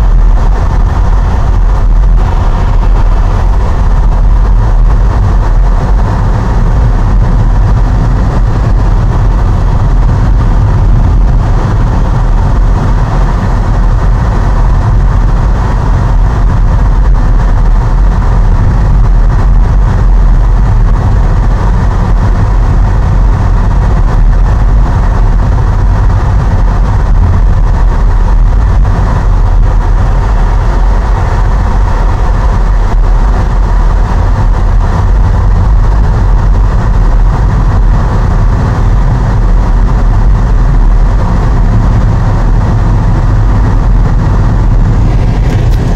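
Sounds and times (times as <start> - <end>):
car engine and tyre rumble: 0.0 - 45.9.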